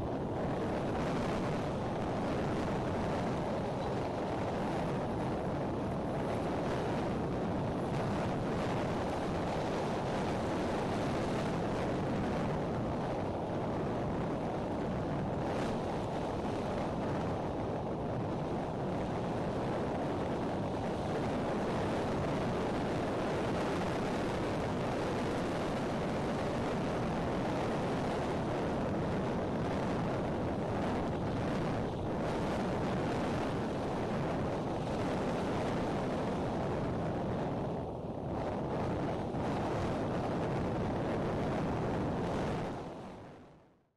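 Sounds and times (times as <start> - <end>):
wind blowing across microphone: 0.0 - 43.9.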